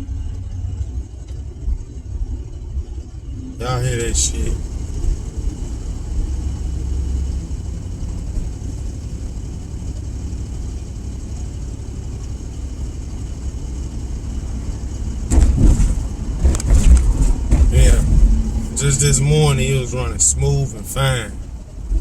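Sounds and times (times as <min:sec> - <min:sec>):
car engine running rough: 0:00.0 - 0:22.0.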